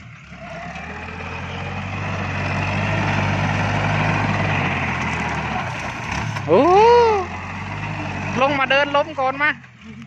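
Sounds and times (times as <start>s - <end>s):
tractor diesel engine revving: 0.0s - 10.0s.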